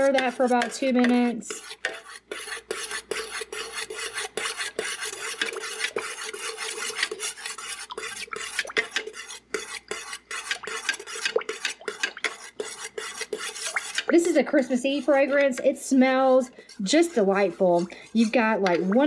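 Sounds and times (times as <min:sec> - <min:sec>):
metal stirrer scraping metal pitcher: 0:00.0 - 0:19.0.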